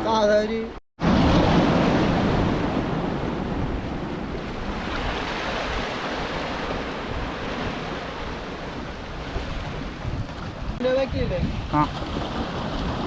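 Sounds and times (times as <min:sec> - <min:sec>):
sea surf: 0:00.0 - 0:13.0
wind rumbling on microphone: 0:01.0 - 0:13.0.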